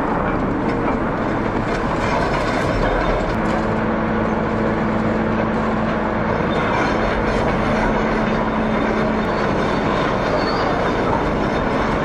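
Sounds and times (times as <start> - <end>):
excavators rumbling: 0.0 - 12.0
steady machinery hum: 0.0 - 12.0.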